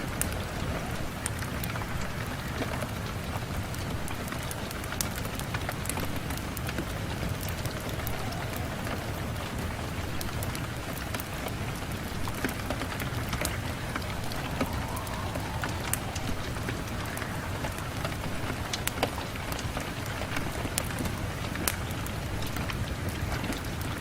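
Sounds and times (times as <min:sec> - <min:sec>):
rain beating on a window: 0:00.0 - 0:24.0
raindrops ticking on glass: 0:00.0 - 0:24.0.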